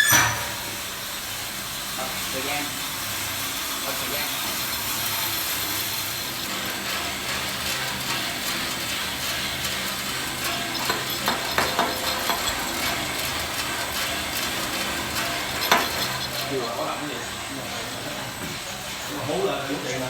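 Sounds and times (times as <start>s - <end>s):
coffee roaster machine hum: 0.0s - 20.0s.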